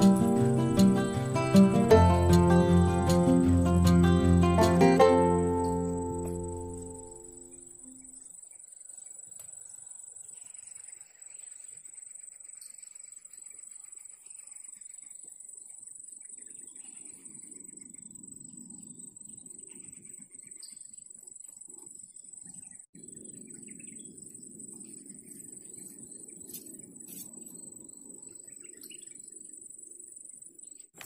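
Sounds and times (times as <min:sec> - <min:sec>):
insect drone: 0:00.0 - 0:31.0
faint bird chirps: 0:05.5 - 0:31.0.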